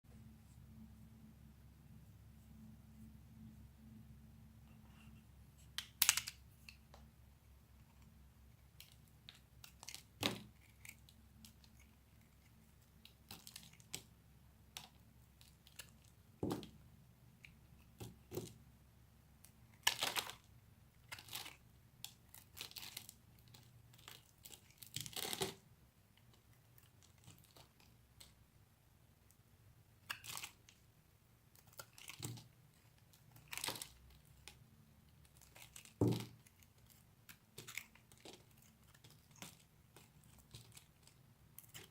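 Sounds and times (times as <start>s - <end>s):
knife carving soap: 4.7s - 18.7s, 19.4s - 28.4s, 30.0s - 41.9s.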